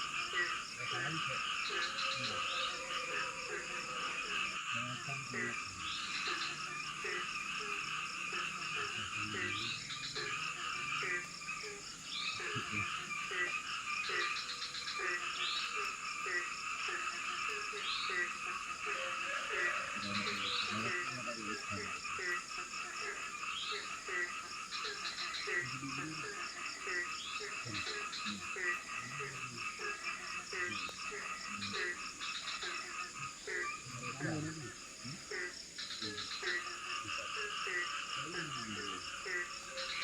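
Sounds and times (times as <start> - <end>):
background hum of frog calls: 0.0 - 40.0
frogs croaking: 0.0 - 40.0.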